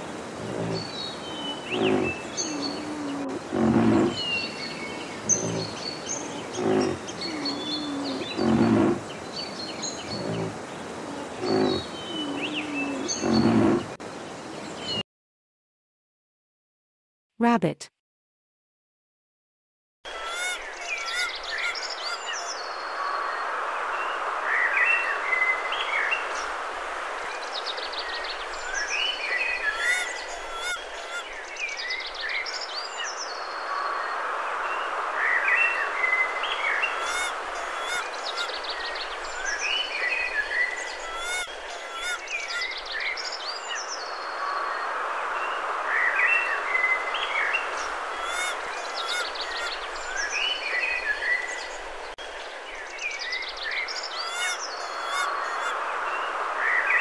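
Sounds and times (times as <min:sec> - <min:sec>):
birds chirping and trilling: 0:00.0 - 0:15.0, 0:20.1 - 0:57.0.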